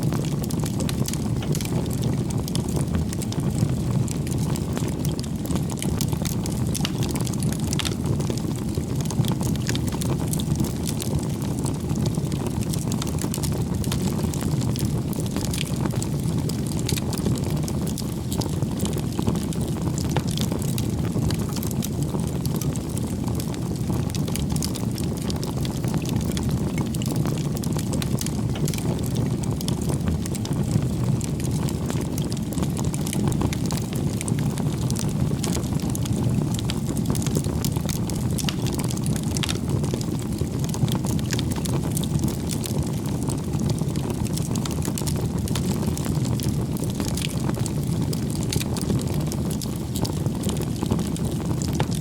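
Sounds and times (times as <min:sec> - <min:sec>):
wood crackling and popping: 0:00.0 - 0:52.0.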